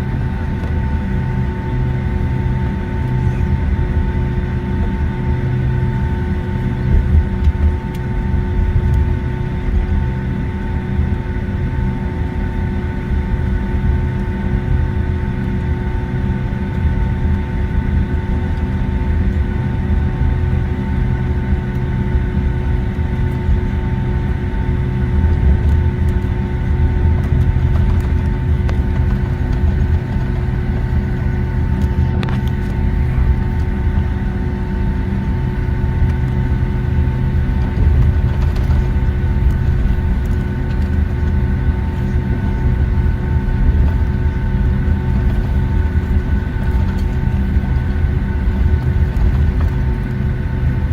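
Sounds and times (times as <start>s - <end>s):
cabin low rumble: 0.0s - 10.0s, 16.9s - 50.9s
jet engine whine: 0.0s - 50.9s.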